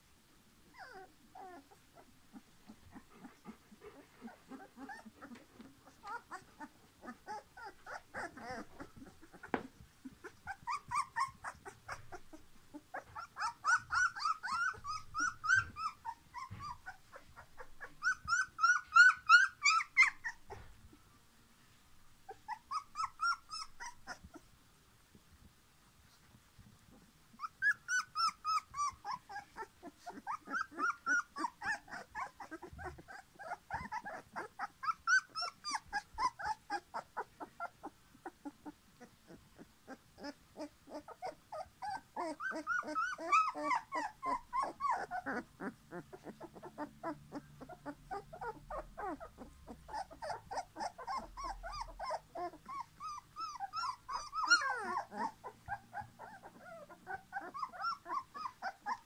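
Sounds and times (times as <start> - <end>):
puppies squealing and whining: 0.7 - 20.8, 22.2 - 24.4, 27.4 - 59.0.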